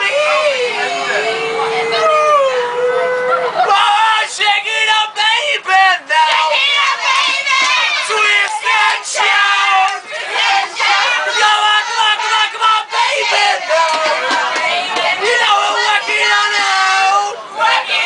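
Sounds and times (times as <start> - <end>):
group singing and shouting: 0.0 - 18.0.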